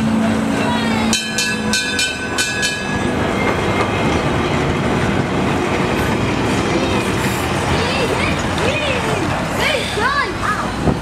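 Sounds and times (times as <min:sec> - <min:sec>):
tram rolling rumble: 0:00.0 - 0:11.0
tram wheel clacks: 0:00.0 - 0:11.0.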